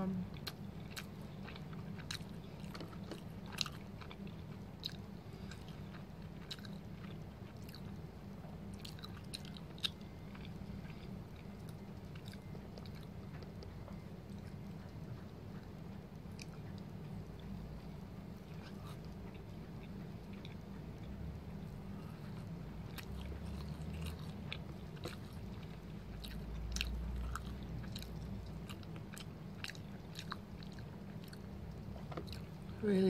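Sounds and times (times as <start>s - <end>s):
steady low hum: 0.0s - 33.0s
chewing with mouth clicks: 0.3s - 17.6s, 18.2s - 21.2s, 21.8s - 32.8s.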